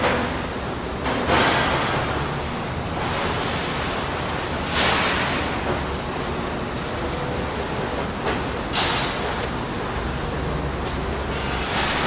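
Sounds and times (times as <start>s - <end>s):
factory machinery droning: 0.0s - 12.0s.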